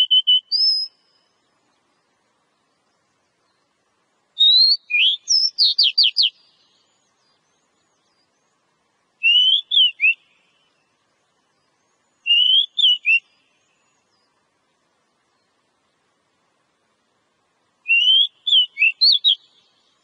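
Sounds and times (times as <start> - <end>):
songbird singing phrases: 0.0 - 20.0.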